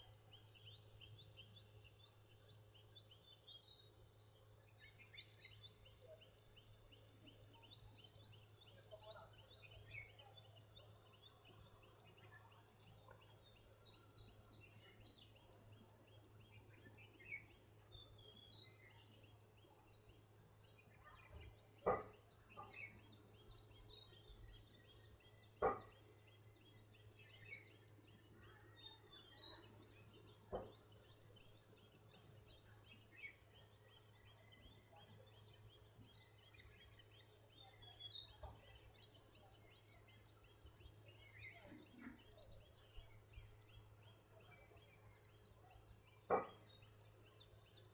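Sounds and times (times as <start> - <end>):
small birds chirping and trilling: 0.0 - 47.9.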